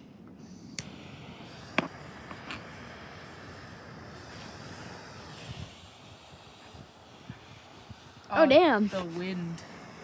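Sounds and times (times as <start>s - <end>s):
gas torch hissing: 0.2s - 10.0s
wind on microphone: 0.9s - 10.0s.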